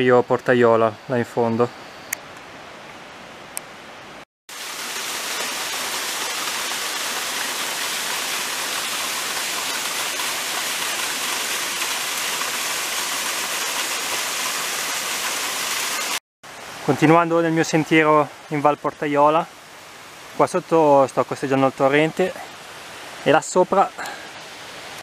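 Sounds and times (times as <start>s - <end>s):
rushing mountain torrent: 4.5s - 25.0s.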